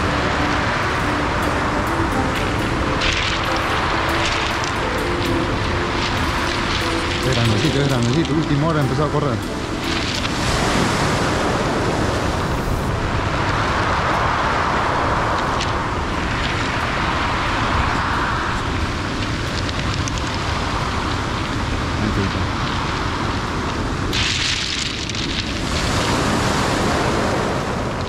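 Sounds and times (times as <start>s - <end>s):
surf washing up pebble beach: 0.0s - 28.0s.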